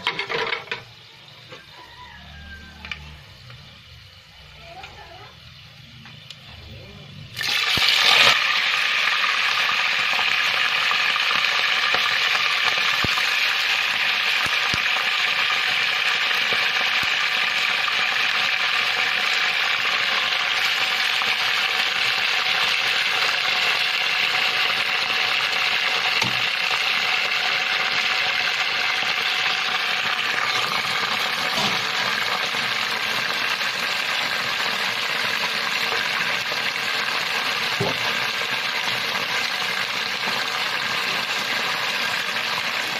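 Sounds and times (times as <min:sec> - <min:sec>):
chicken sizzling in hot oil: 0:00.0 - 0:42.9.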